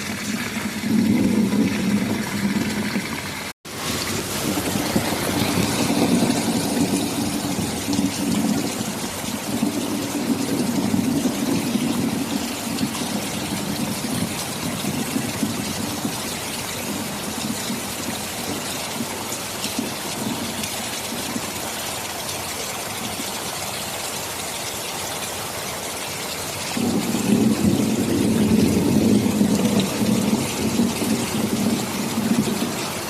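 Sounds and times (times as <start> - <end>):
thunder rumbling: 0.0 - 21.7, 26.8 - 33.0
steady rain: 0.0 - 33.0.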